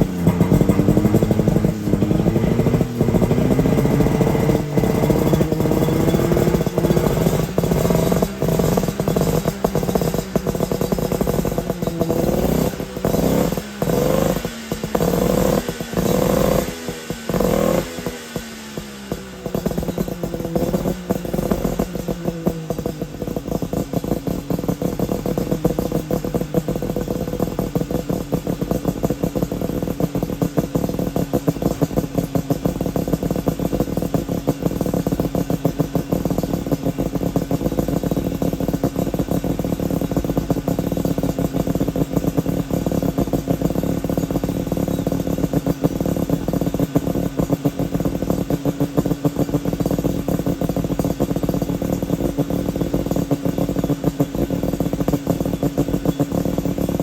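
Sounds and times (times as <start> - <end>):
two-stroke engine exhaust pulsing: 0.0 - 57.0.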